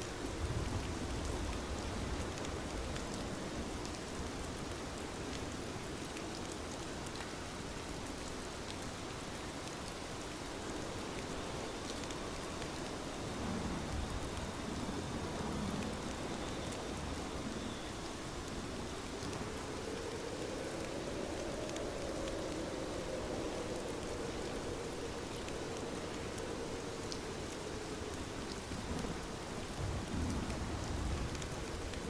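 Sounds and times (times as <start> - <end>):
steady rain hiss: 0.0 - 32.0
raindrop ticks: 0.6 - 7.4, 11.0 - 32.0.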